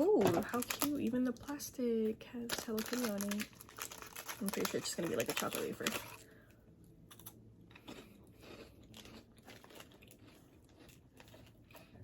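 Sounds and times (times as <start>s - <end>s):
wafer cookie crunching: 2.3s - 12.0s.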